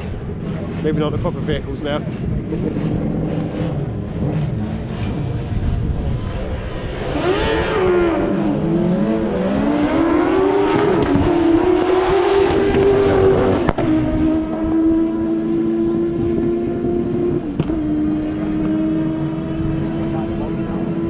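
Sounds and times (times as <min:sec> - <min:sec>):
racing engine accelerating hard: 0:00.0 - 0:21.0.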